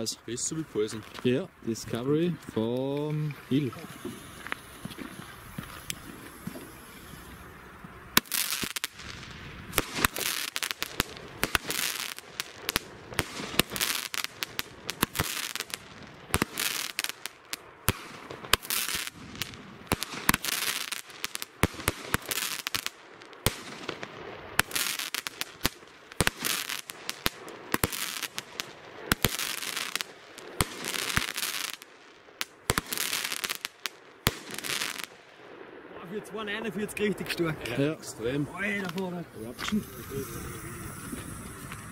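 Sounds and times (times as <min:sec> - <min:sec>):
firework launch reports: 0:00.0 - 0:04.8, 0:05.5 - 0:41.9
firework crackle: 0:00.0 - 0:41.9
firework stars bursting: 0:03.5 - 0:35.3, 0:37.3 - 0:41.9.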